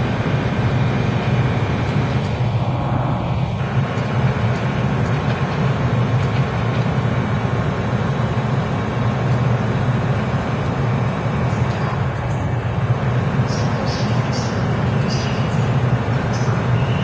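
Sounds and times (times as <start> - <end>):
train pulling into station: 0.0 - 17.0.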